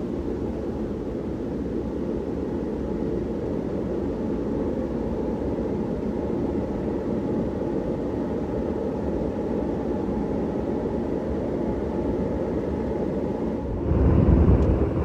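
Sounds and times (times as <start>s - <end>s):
ceiling fan air rush: 0.0s - 15.0s.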